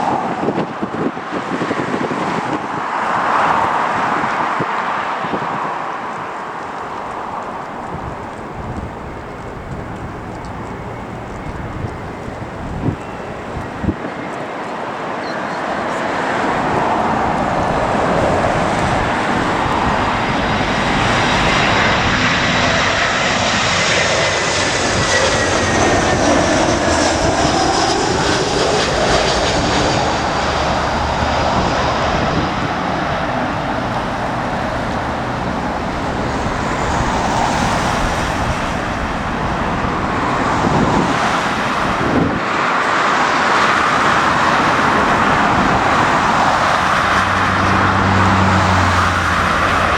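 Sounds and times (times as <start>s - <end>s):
jet airliner passing overhead: 0.0s - 49.9s.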